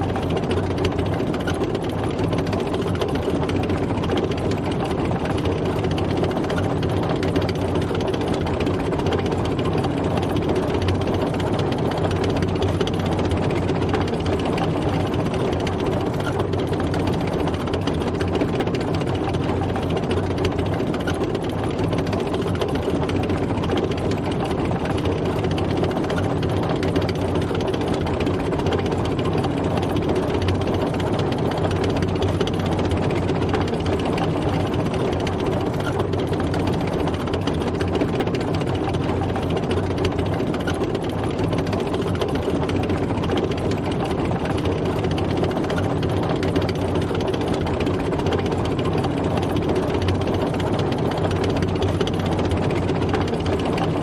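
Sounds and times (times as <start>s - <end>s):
tank engine running: 0.0s - 54.0s.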